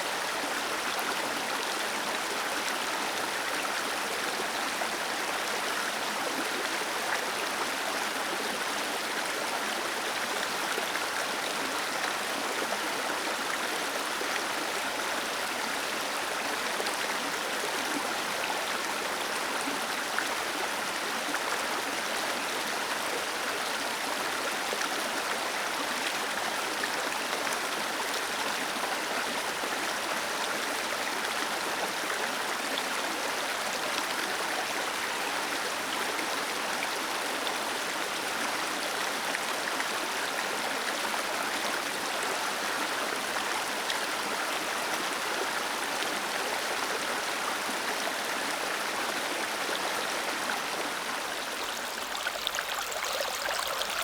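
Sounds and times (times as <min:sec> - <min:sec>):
small waterfall cascading over rocks: 0:00.1 - 0:54.0.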